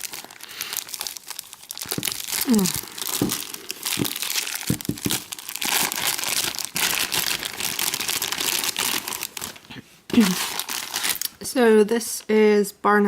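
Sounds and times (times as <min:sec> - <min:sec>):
soap wrapping crinkling and tearing: 0:00.0 - 0:11.4.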